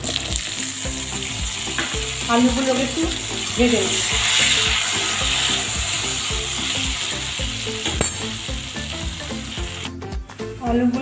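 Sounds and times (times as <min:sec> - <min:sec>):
potatoes sizzling in hot oil: 0:00.0 - 0:09.9.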